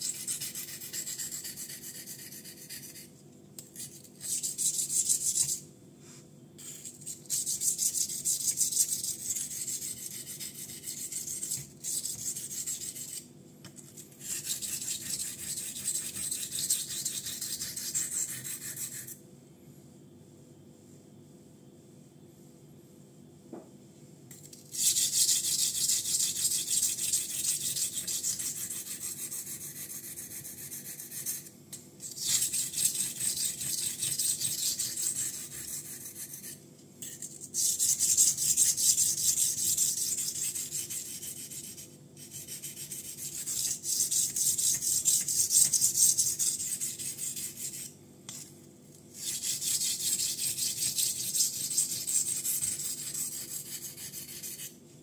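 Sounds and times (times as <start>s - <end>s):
knife scraping on whetstone: 0.1s - 3.1s, 6.6s - 13.2s, 14.0s - 19.2s, 24.7s - 48.4s, 49.2s - 54.8s.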